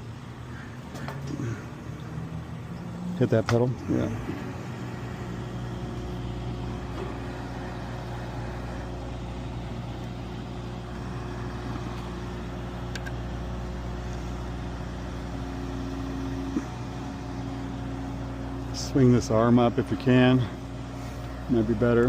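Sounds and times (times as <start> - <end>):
engine running: 0.0 - 22.0
faint steady whine: 0.0 - 22.0.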